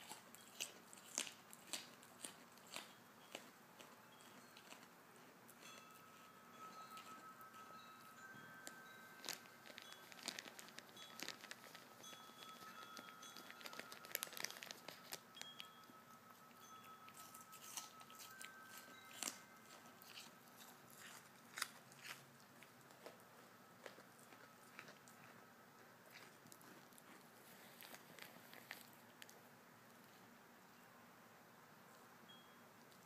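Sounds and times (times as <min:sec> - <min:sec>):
deer chewing and crunching: 0:00.0 - 0:29.4.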